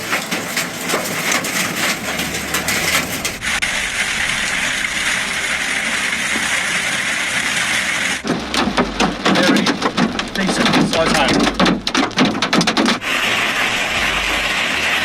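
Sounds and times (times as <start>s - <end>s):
hail and rain pelting a vehicle: 0.0s - 15.0s.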